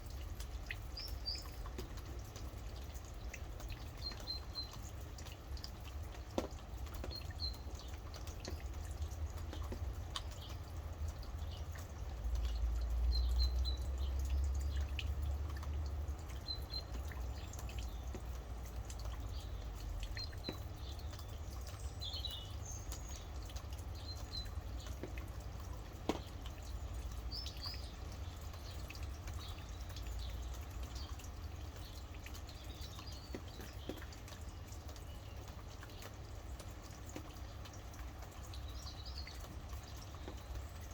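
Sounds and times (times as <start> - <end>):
rain dripping: 0.0 - 40.9
small birds chirping: 0.0 - 40.9.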